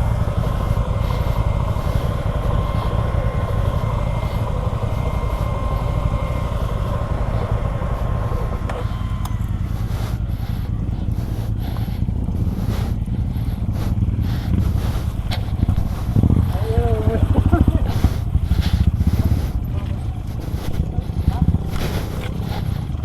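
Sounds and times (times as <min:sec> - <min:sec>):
motorcycle engine running: 0:00.0 - 0:23.0
thin steady whine: 0:00.0 - 0:23.0
wind rumble on microphone: 0:00.0 - 0:23.0.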